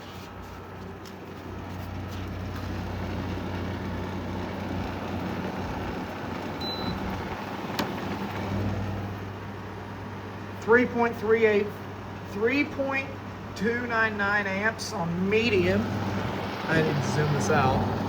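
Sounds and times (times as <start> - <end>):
air conditioner running: 0.0 - 18.0.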